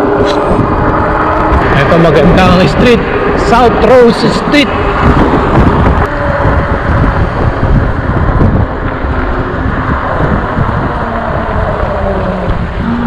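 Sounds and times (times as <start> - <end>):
road traffic rumbling: 0.0 - 13.0
wind buffeting microphone: 0.0 - 13.0.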